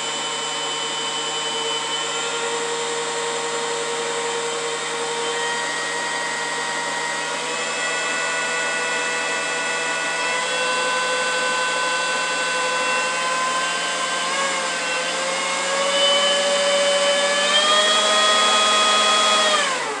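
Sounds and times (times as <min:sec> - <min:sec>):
leaf blower whining: 0:00.0 - 0:20.0.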